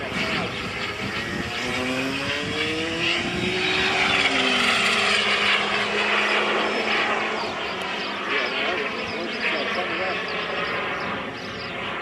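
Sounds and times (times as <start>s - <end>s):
model jet turbine flying past: 0.0s - 12.0s.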